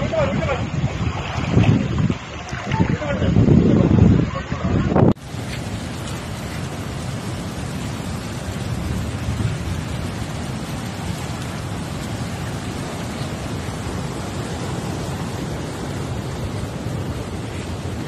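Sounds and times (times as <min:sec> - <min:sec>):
surf churning over shore: 0:00.0 - 0:18.0.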